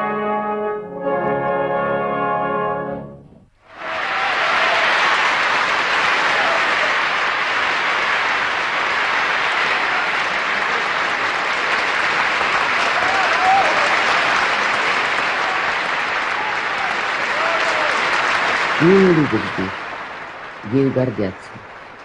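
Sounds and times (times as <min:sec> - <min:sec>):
audience applauding: 0:03.7 - 0:22.0.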